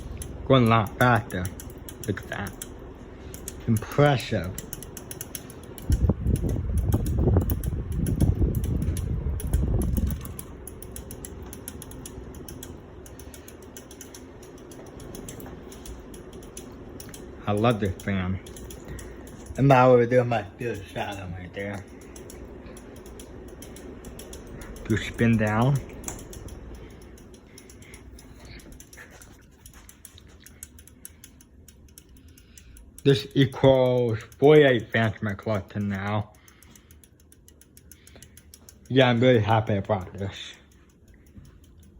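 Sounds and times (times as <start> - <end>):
ceiling fan humming and ticking: 0.0 - 41.9.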